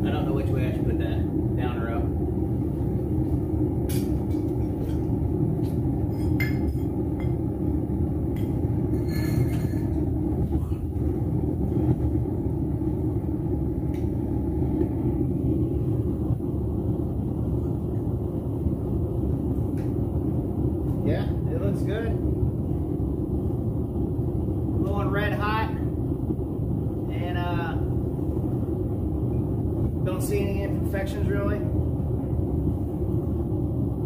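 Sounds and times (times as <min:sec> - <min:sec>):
furnace burner rushing: 0:00.0 - 0:34.0.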